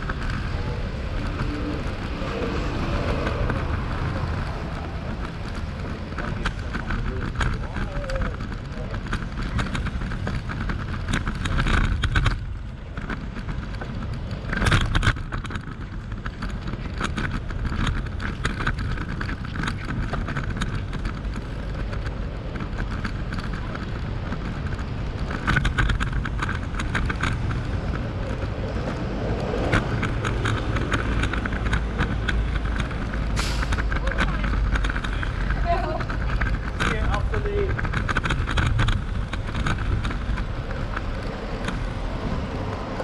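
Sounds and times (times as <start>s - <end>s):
road traffic: 0.0s - 43.0s.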